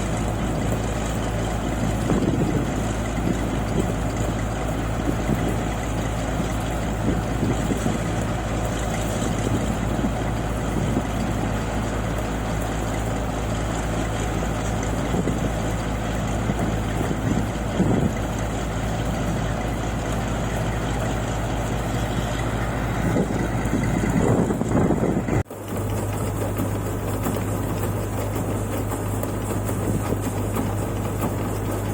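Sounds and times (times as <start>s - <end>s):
machine engine humming: 0.0s - 31.9s.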